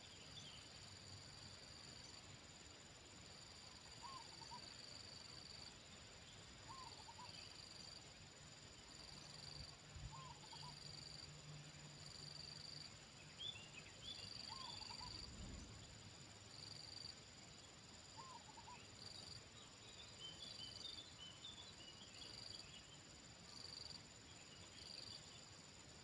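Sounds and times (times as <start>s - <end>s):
small birds chirping: 0.0s - 1.0s, 3.6s - 26.0s.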